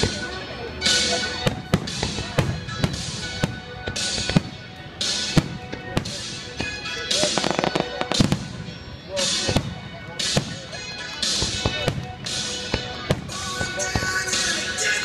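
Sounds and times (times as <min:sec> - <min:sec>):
music: 0:00.0 - 0:15.0
fireworks crackling hiss: 0:01.0 - 0:15.0
fireworks booming: 0:01.4 - 0:14.3.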